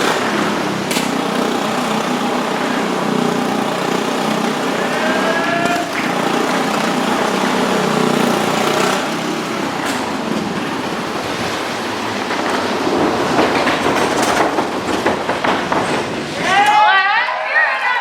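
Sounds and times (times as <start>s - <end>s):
motorcycle engines droning: 0.0s - 16.8s.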